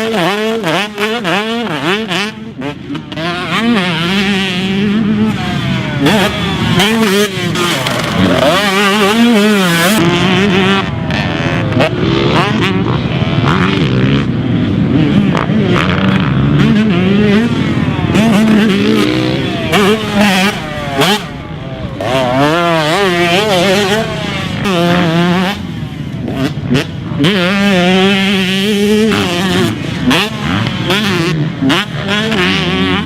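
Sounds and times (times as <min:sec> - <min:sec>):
motocross bike engine revving: 0:00.0 - 0:33.0.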